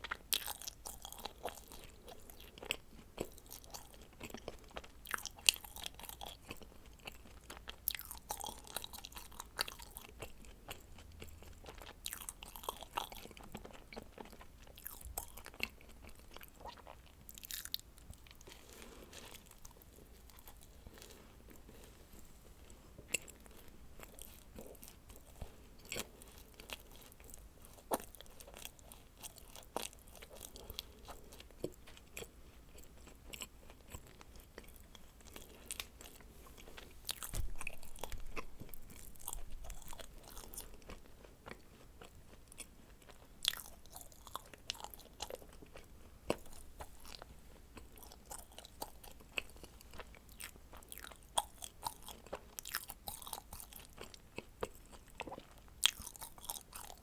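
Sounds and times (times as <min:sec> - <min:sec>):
crunchy cookie chewing: 0:00.0 - 0:57.0.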